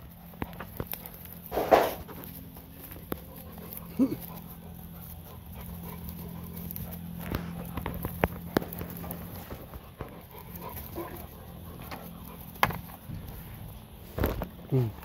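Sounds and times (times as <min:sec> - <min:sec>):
goats panting: 0:00.0 - 0:15.0.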